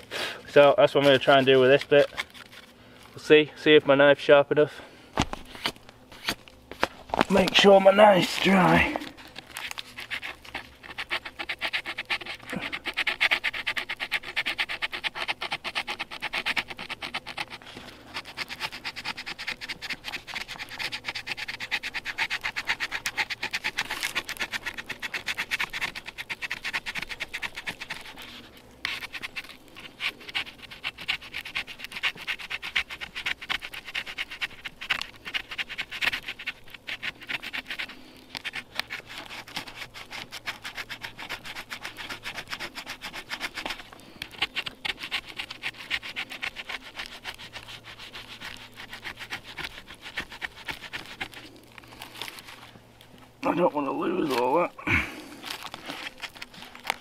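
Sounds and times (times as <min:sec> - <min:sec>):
knife scraping bark: 0:00.0 - 0:03.8, 0:04.8 - 0:52.7, 0:53.4 - 0:57.0.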